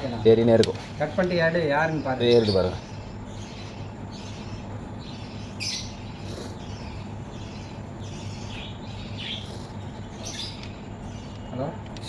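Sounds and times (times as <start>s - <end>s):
birds chirping: 0.0s - 12.0s
low background hum: 0.0s - 12.0s.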